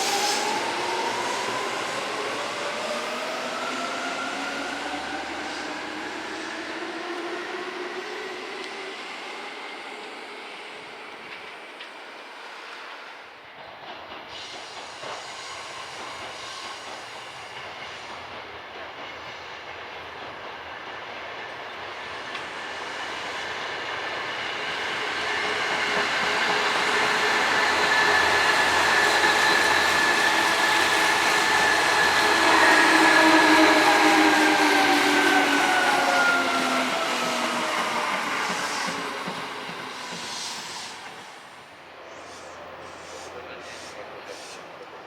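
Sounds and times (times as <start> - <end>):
electric train approaching: 0.0 - 45.0.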